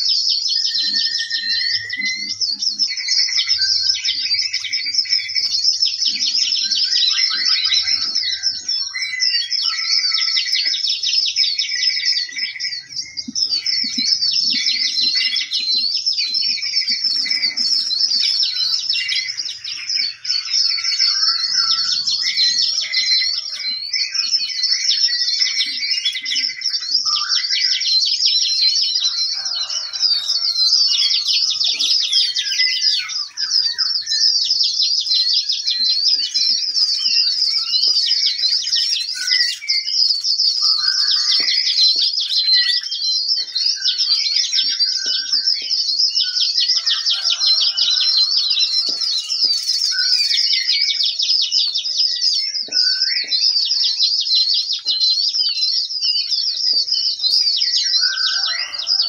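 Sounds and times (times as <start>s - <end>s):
lower bird calls: 0.0s - 53.9s
small birds twittering: 0.0s - 59.0s.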